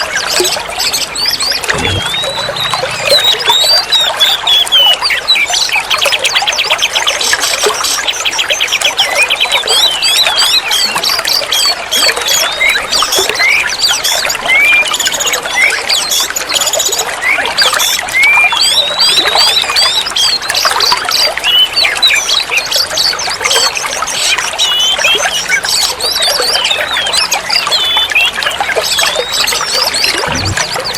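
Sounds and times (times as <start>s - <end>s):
songbird singing: 0.0s - 30.9s.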